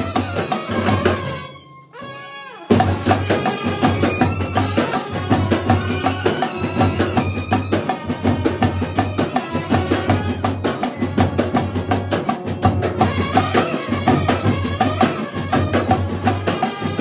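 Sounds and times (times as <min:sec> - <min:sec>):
side drums beating: 0:00.0 - 0:01.5, 0:02.7 - 0:17.0
trumpets playing a melody: 0:00.0 - 0:17.0.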